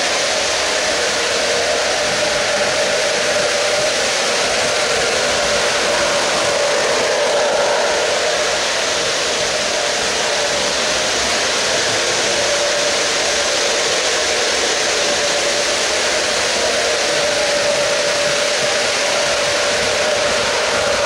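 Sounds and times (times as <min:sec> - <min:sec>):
model train wheels rolling on rails: 0:00.0 - 0:21.0
steady hum: 0:00.0 - 0:21.0.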